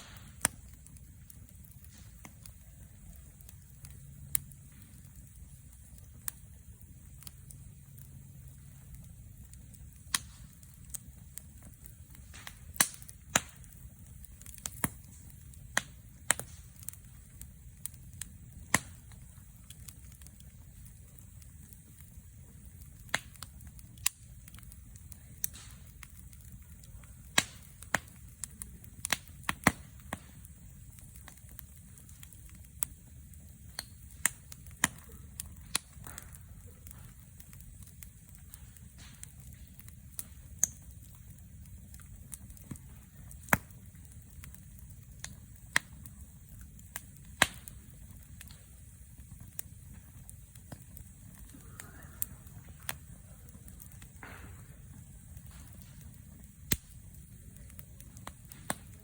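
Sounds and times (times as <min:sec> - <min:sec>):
low steady rumble: 0:00.0 - 0:59.0
sharp pops of fire: 0:00.0 - 0:59.0
wood fire crackling: 0:00.0 - 0:59.0.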